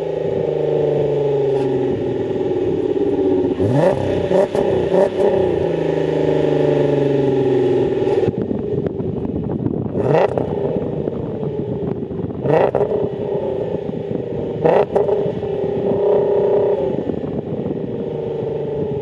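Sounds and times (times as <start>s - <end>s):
car engine exhaust note: 0.0s - 19.0s
sharp exhaust blasts: 0.0s - 19.0s.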